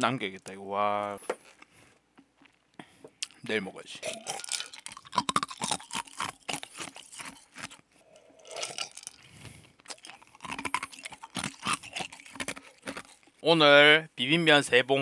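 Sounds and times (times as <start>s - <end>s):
crisp crunchy chewing: 0.0s - 13.4s.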